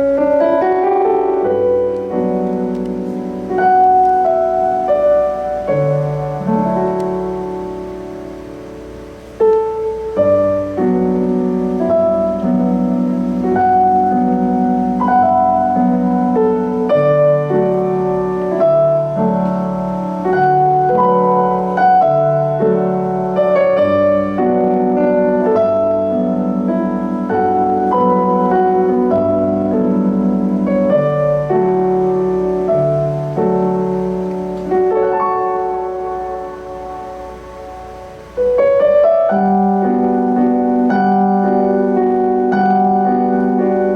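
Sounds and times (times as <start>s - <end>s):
piano keyboard solo: 0.0s - 43.9s.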